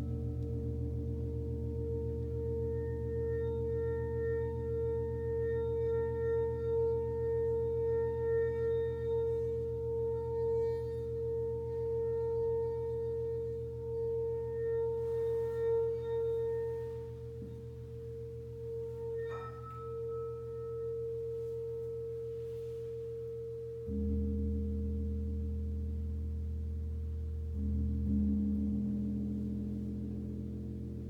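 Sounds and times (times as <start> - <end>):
singing bowl ringing: 0.0 - 25.6
low gong hum: 0.0 - 31.0.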